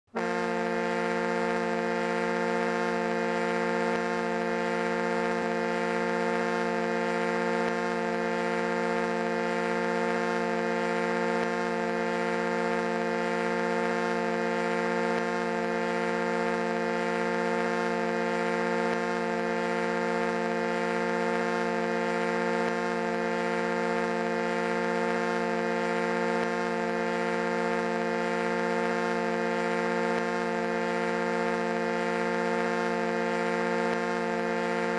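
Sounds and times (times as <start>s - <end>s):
foghorn blowing low blast: 0.1s - 34.9s.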